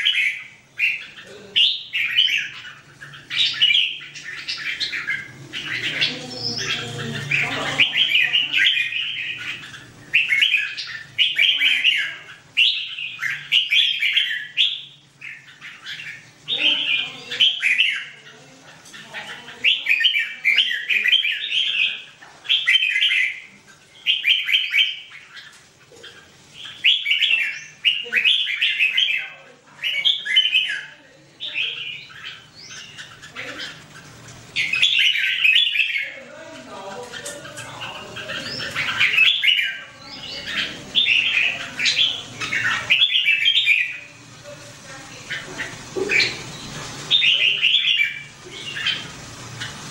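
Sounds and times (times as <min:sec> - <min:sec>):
birds singing warbling phrases: 0:00.0 - 0:49.9.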